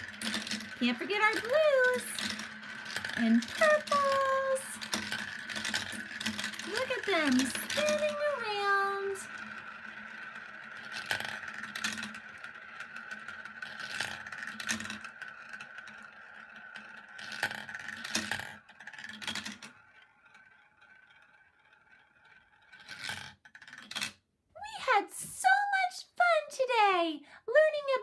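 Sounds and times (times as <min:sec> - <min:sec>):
marbles rolling in plastic bowl: 0:00.0 - 0:26.7.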